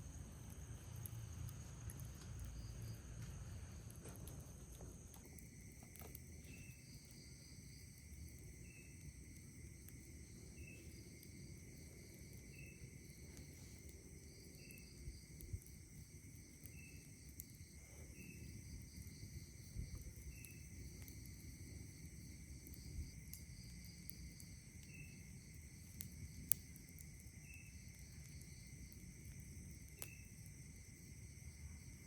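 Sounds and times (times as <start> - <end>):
short insect chirp: 0.0 - 4.0, 5.0 - 9.2, 12.1 - 25.5, 27.3 - 32.0
campfire crackles: 0.0 - 32.0
cricket trills: 0.0 - 32.0.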